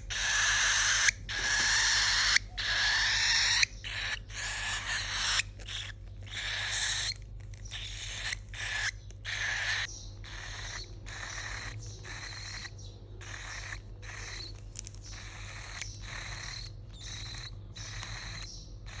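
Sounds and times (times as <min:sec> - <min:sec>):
cockatiel raspy hissing calls: 0:00.0 - 0:14.5, 0:15.1 - 0:19.0.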